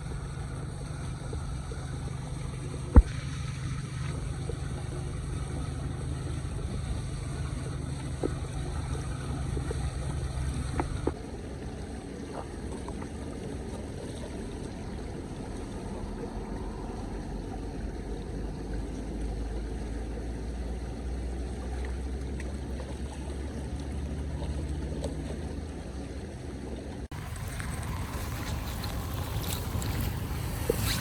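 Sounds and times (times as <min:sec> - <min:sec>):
floodwater rushing: 0:00.0 - 0:18.4, 0:22.2 - 0:31.0
wind rumble on microphone: 0:00.0 - 0:31.0.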